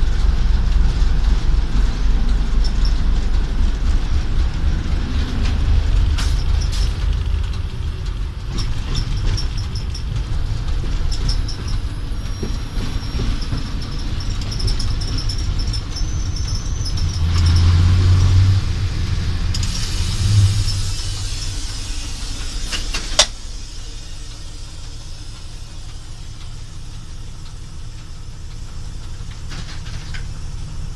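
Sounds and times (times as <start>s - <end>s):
diesel locomotive engine drone: 0.0s - 30.9s.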